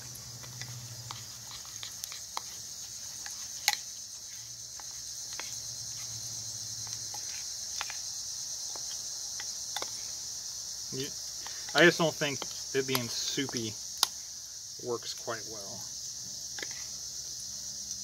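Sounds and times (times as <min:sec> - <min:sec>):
spoon stirring batter: 0:00.0 - 0:17.4
insects chirring: 0:00.0 - 0:18.0.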